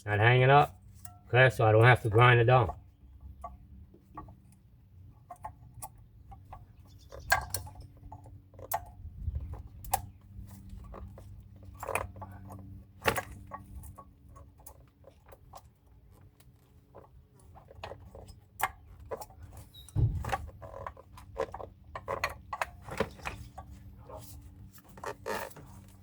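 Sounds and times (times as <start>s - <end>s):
metallic clicks of brake pads: 0.9s - 26.0s.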